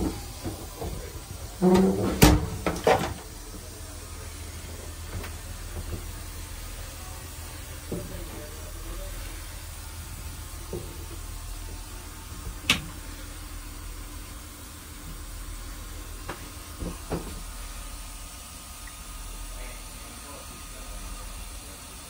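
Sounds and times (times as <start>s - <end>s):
train carriage low rumble: 0.0s - 22.0s.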